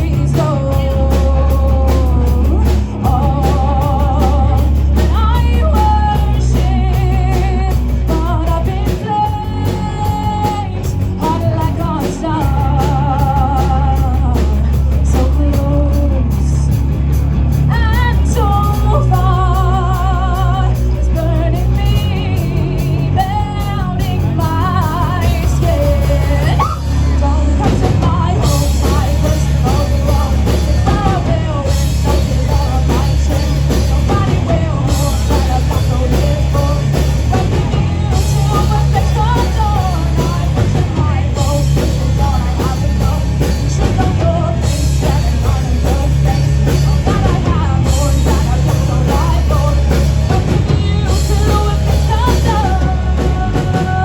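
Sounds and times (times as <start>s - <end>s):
person singing: 0.0s - 16.8s, 17.7s - 54.0s
bass guitar: 0.0s - 54.0s
drums: 0.0s - 54.0s
electric guitar: 0.0s - 54.0s.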